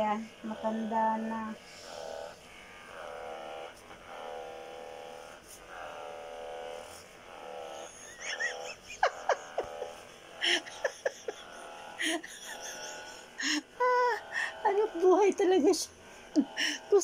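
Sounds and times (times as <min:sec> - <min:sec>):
massage gun motor humming: 0:00.0 - 0:17.0.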